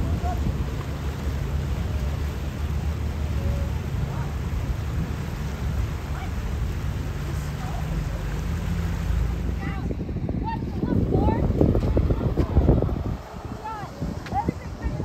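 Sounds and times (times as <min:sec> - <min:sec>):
boat engine droning: 0:00.0 - 0:15.0
wind buffeting microphone: 0:00.0 - 0:15.0.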